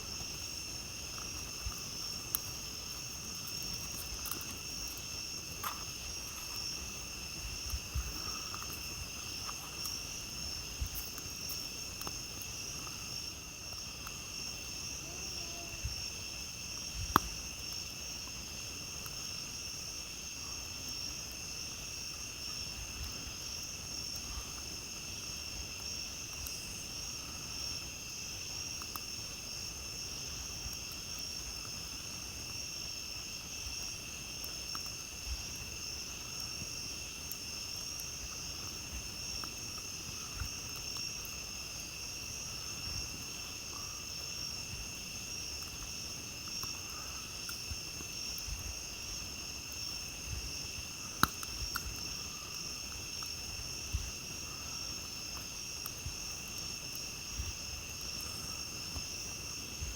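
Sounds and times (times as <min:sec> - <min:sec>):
campfire crackling: 0:00.0 - 0:59.9
night insects trilling: 0:00.0 - 0:59.9
campfire pop: 0:00.1 - 0:19.4, 0:22.0 - 0:59.9.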